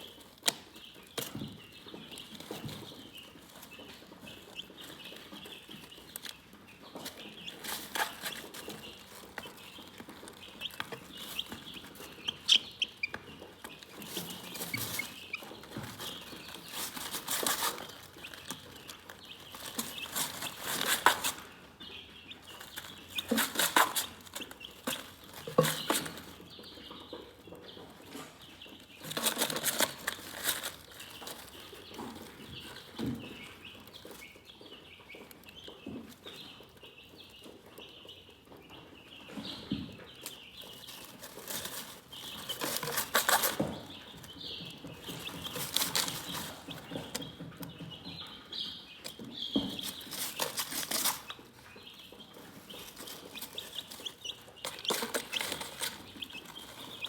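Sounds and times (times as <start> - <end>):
chickens clucking and chirping: 0.0 - 57.0.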